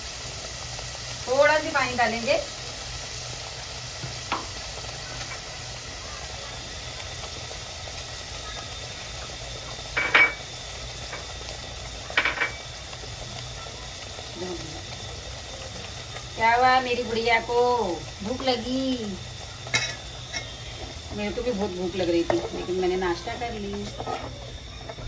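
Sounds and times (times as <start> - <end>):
paste sizzling in hot oil: 0.0 - 25.0.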